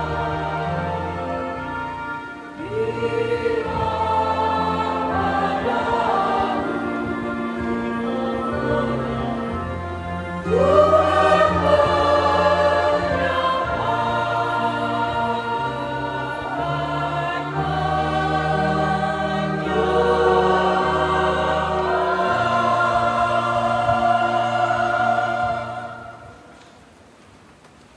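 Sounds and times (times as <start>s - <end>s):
mixed choir singing: 0.0s - 26.6s
sustained low accompanying notes: 0.0s - 26.6s.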